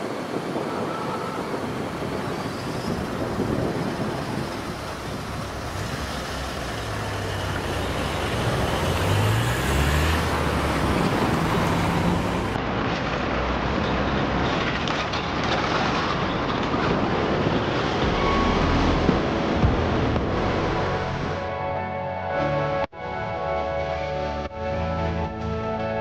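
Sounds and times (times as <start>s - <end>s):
vehicle engine rumbling: 1.4s - 22.6s.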